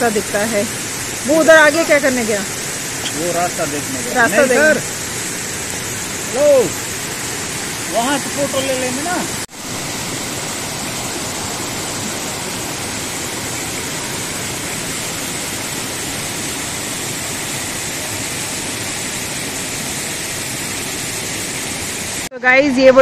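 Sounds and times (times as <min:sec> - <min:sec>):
water rushing over rocks: 0:00.0 - 0:22.3.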